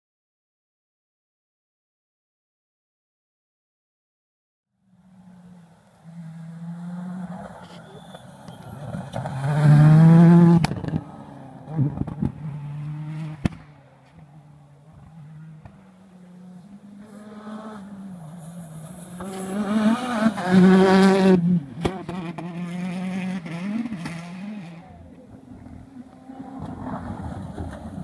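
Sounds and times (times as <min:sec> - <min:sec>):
rally car engine revving: 0:05.0 - 0:28.0.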